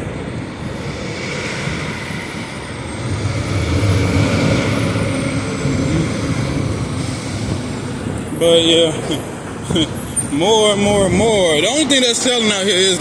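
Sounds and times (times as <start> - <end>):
road traffic passing: 0.0 - 13.0
vehicle engine rumble passing close: 0.0 - 13.0.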